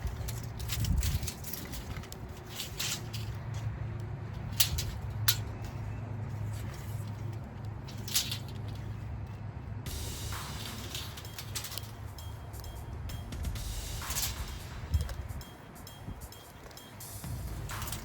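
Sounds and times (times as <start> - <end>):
steady low hum: 0.0 - 18.0
wire rustling: 0.0 - 18.0.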